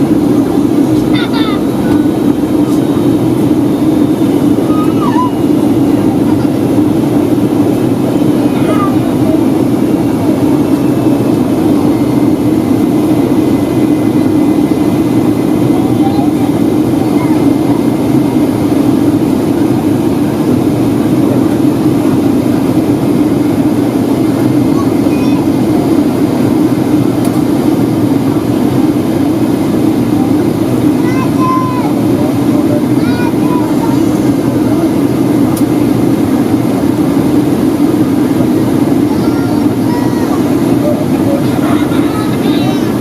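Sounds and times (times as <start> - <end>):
airflow over aircraft fuselage: 0.0 - 43.0
jet engine roar in cabin: 0.0 - 43.0.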